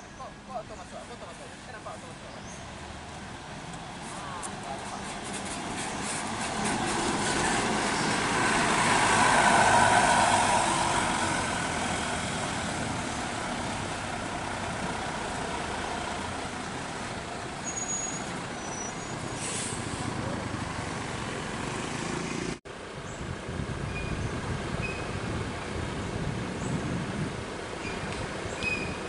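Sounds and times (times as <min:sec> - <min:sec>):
bus engine passing by: 0:02.2 - 0:29.0.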